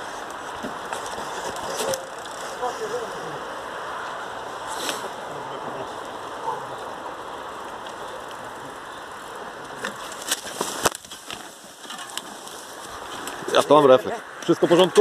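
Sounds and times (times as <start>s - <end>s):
background hiss: 0.0s - 15.0s
mountain bike clattering: 0.0s - 15.0s.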